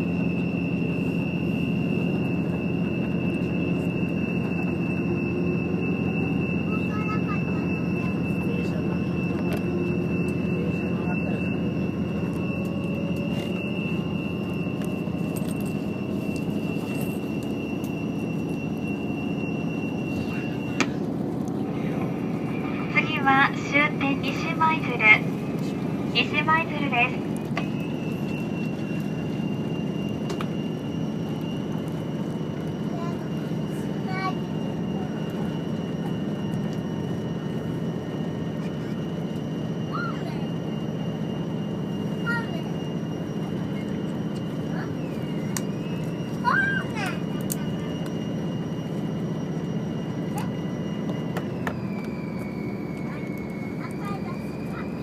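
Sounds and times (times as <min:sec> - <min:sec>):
thin high whine: 0:00.0 - 0:55.0
train rumble: 0:00.0 - 0:55.0.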